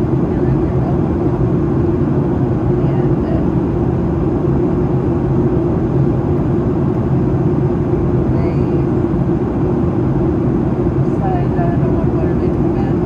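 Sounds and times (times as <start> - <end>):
airflow over fuselage: 0.0 - 13.0
airplane engine drone: 0.0 - 13.0.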